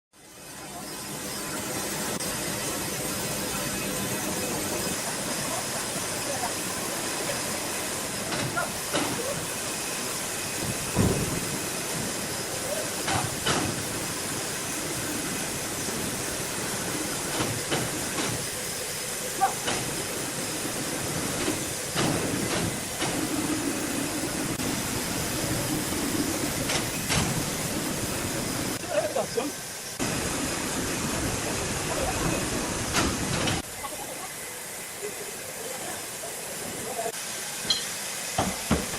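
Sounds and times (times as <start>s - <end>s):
sawmill machinery hissing: 0.2s - 38.9s.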